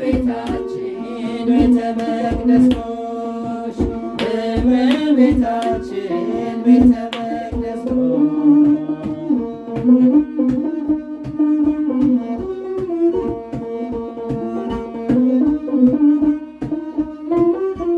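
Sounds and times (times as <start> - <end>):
bowed string melody: 0.0 - 17.9
hand drum beating rhythm: 0.0 - 17.9.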